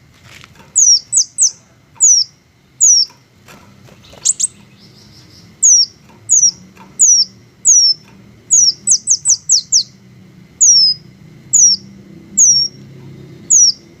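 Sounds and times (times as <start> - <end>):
small bird whistled calls: 0.8 - 3.1, 4.0 - 10.0, 10.6 - 14.0.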